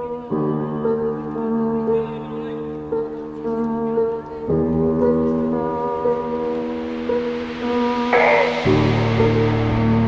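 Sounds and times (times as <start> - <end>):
music of sustained notes: 0.0 - 10.0.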